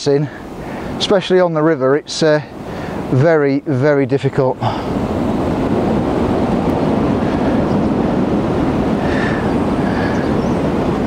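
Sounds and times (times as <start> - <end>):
strong gusty wind through trees: 0.0 - 11.0
wind buffeting microphone: 0.0 - 11.0.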